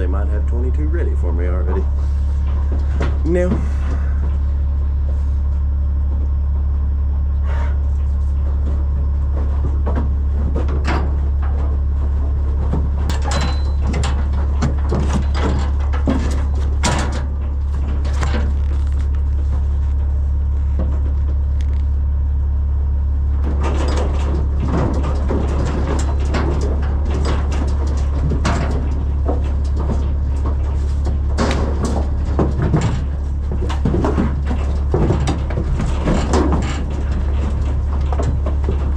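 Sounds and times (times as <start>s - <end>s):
knocks and rattles: 0.0s - 38.9s
vehicle engine idling: 0.0s - 38.9s.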